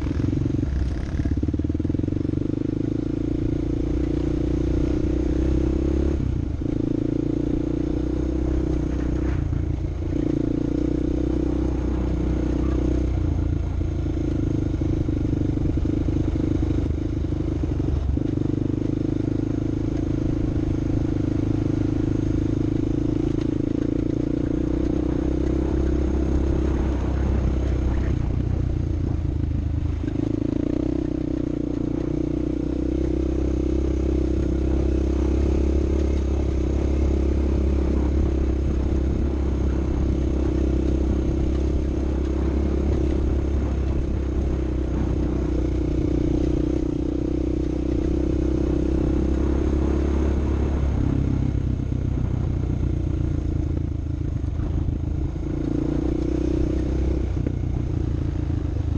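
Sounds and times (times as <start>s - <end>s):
off-road vehicle engine running: 0.0s - 58.9s.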